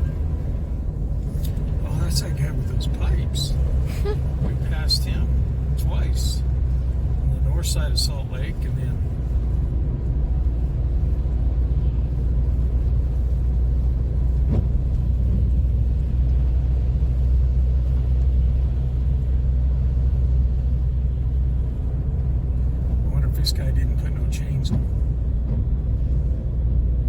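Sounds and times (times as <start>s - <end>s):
car driving rumble: 0.0s - 27.0s.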